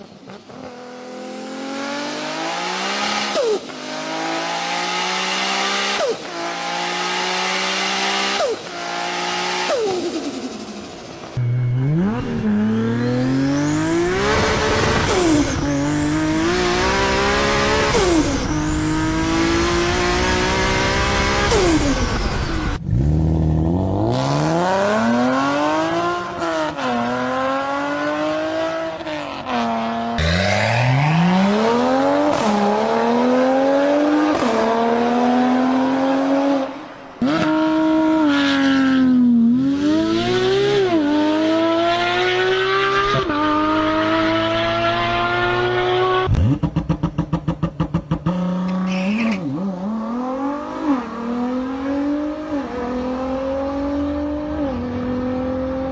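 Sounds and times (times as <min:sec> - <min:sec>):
sports car engines accelerating hard: 0:00.0 - 0:55.9.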